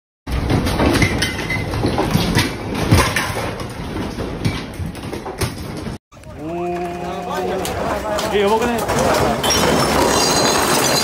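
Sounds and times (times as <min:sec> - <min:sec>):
objects rattling and clattering: 0:00.3 - 0:11.0.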